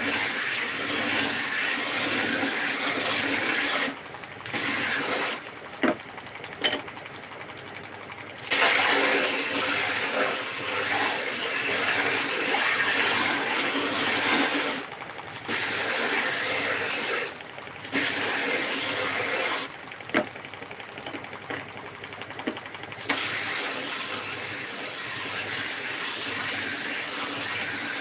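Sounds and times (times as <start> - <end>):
belt sander grinding wood: 0.0 - 6.0, 8.7 - 20.3, 22.4 - 28.0.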